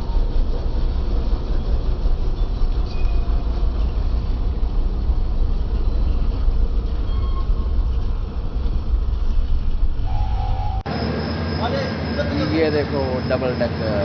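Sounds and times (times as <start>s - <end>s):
train rumbling along rails: 0.0s - 14.0s.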